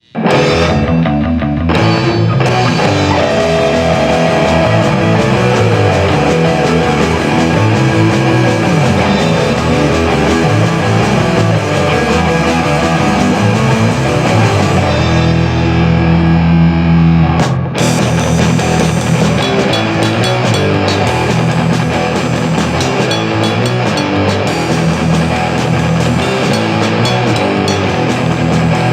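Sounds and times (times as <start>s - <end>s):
electric guitar: 0.0s - 28.9s
rock band playing: 0.0s - 28.9s.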